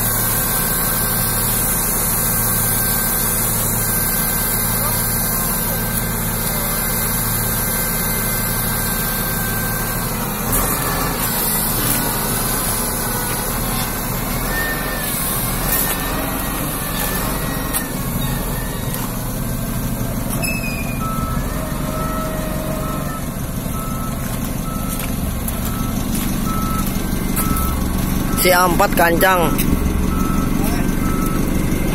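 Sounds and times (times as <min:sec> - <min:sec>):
diesel engine running: 0:00.0 - 0:31.9
reversing alarm beeping: 0:00.3 - 0:31.9.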